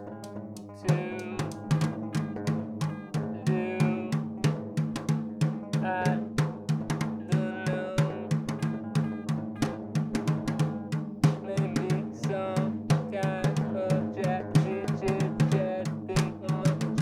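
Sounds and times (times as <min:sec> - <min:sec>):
live drum kit: 0:00.8 - 0:17.0.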